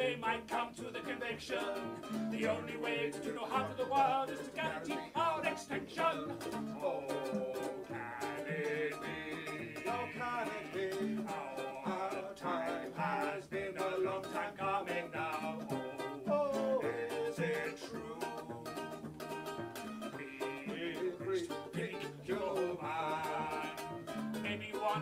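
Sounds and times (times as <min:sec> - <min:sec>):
cello playing: 0:00.0 - 0:25.0
ukulele strummed briskly: 0:00.0 - 0:25.0.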